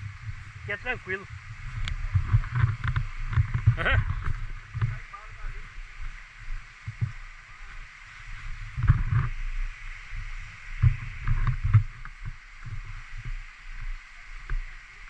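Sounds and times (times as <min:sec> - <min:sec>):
microphone handling thumps: 0:00.0 - 0:13.9
steady hiss: 0:00.0 - 0:15.0.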